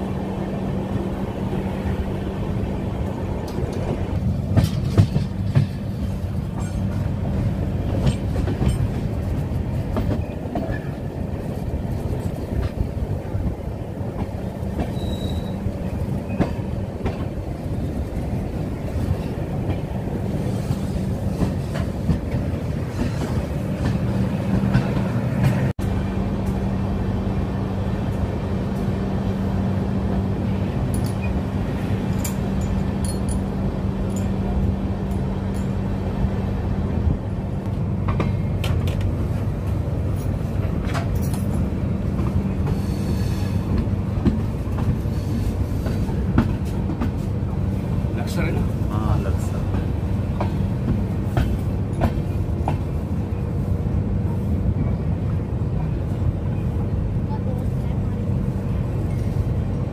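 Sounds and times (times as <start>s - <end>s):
rail clicks: 0.0s - 26.8s, 30.5s - 59.9s
train wheels rumbling on rails: 0.0s - 59.9s.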